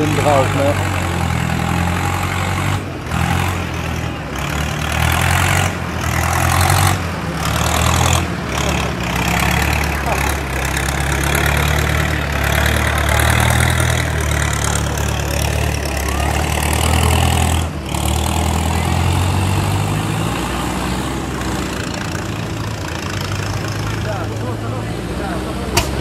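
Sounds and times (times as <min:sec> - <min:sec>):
diesel tractor engines rumbling: 0:00.0 - 0:26.0.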